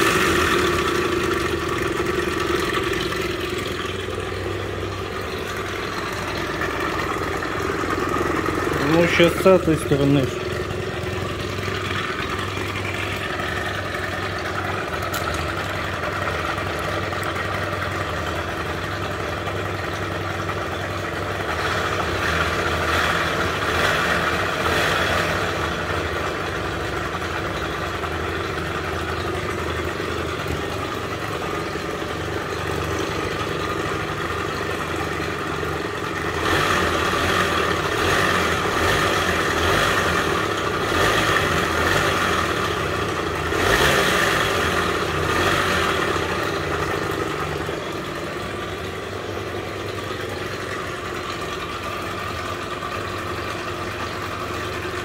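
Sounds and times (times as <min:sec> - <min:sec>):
extraneous engine noise: 0:00.0 - 0:55.0
scooter engine idling and revving: 0:00.0 - 0:55.0.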